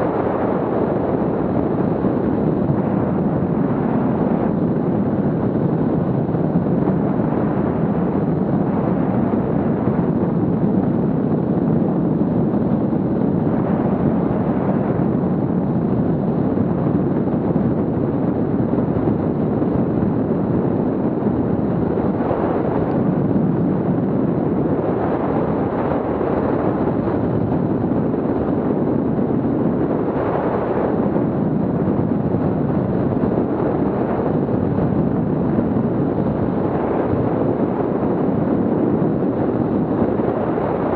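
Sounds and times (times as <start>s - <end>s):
paramotor engine and propeller: 0.0s - 40.9s
wind buffeting microphone: 0.0s - 40.9s.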